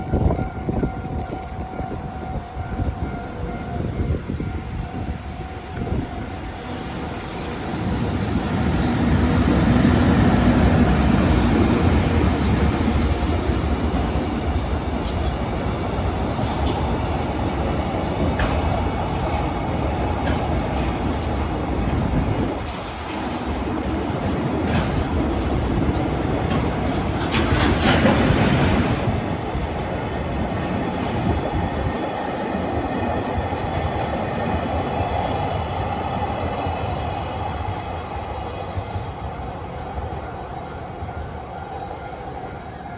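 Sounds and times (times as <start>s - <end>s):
electric locomotive passing: 0.0s - 42.9s.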